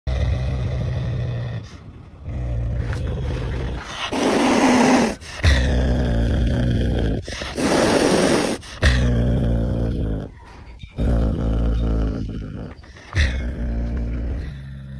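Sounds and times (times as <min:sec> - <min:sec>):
wild cat growling: 0:00.1 - 0:14.9
wild cat hissing: 0:00.2 - 0:14.6.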